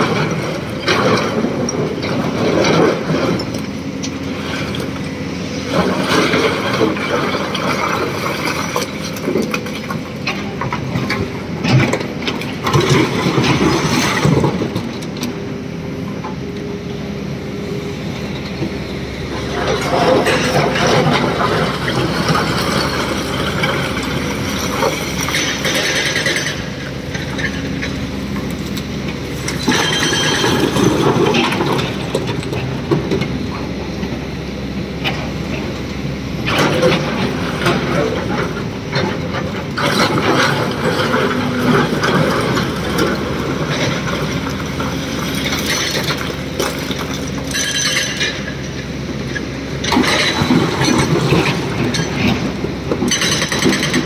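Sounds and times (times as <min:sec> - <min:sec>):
diesel excavator engine running: 0:00.0 - 0:54.0.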